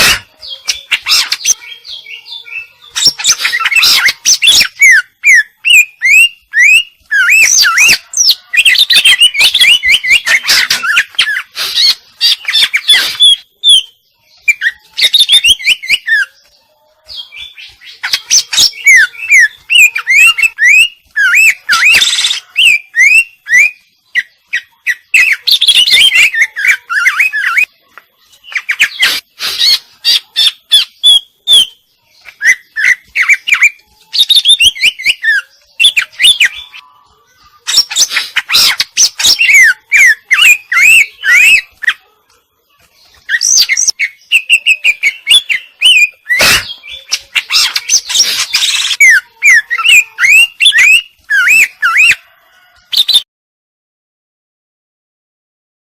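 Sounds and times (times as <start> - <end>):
bird singing chirps and trills: 0.0 - 53.3.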